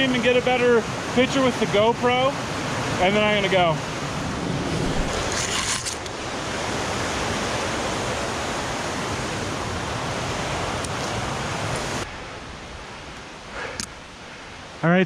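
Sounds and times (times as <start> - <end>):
river and waterfall rushing: 0.0 - 15.0.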